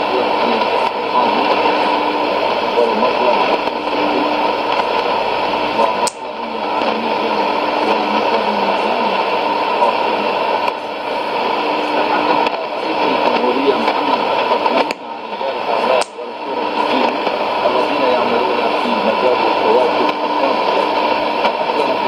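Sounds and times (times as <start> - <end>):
distant broadcast voice: 0.0 - 22.0
radio static hiss: 0.0 - 22.0.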